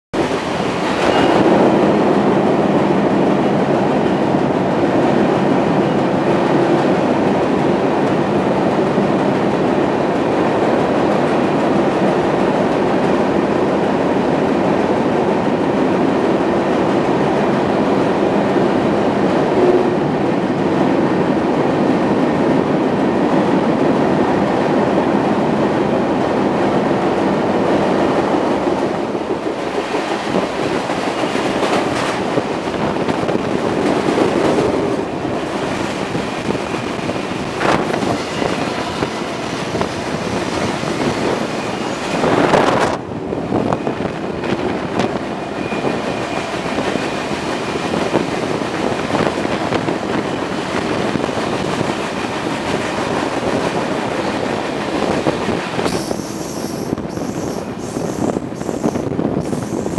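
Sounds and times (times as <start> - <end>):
train wheels rumbling in tunnel: 0.1 - 59.9.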